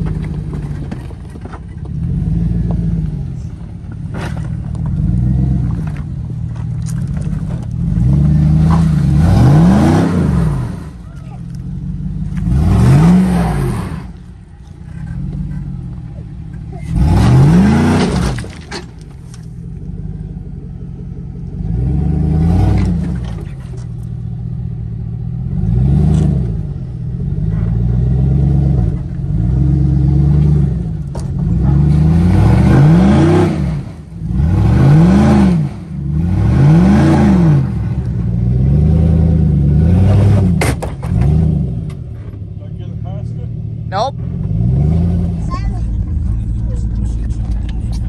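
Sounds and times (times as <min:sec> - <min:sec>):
engine revving: 0:01.8 - 0:48.0.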